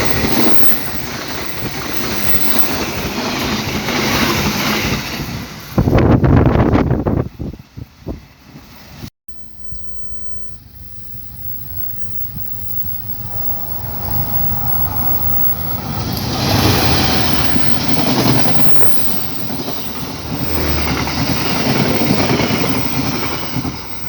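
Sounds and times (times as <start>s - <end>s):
train passing close by: 0.0s - 24.0s.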